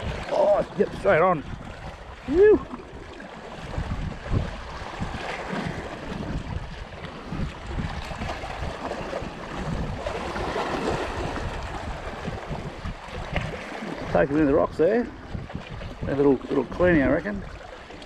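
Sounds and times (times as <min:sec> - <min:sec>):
small waves lapping on rocks: 0:00.0 - 0:18.0
wind buffeting microphone: 0:00.0 - 0:18.0.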